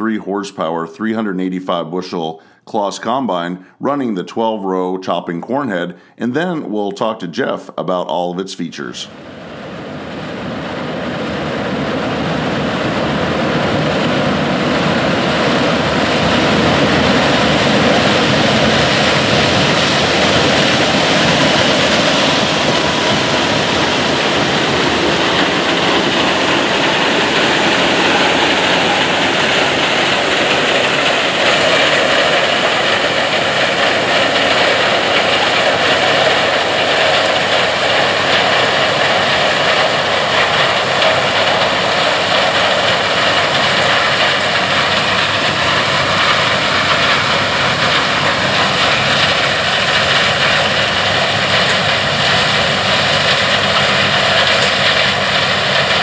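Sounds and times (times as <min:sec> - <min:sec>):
combine harvester running: 0:09.0 - 0:56.0.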